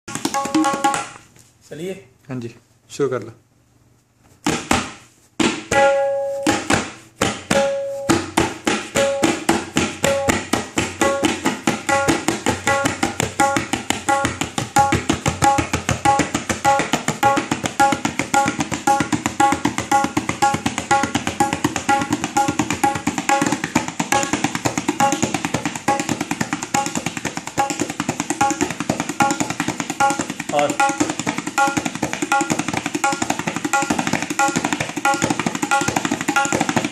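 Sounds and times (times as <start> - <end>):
tabla strokes: 0.1 - 1.3, 4.3 - 36.9.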